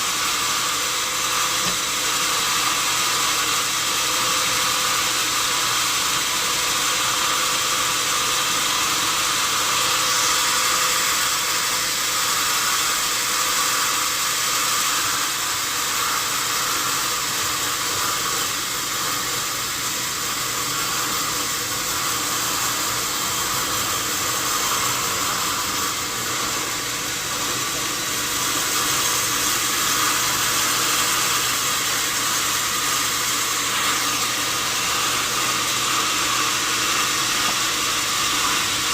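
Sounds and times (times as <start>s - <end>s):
sawmill machinery sawing wood: 0.0s - 38.9s.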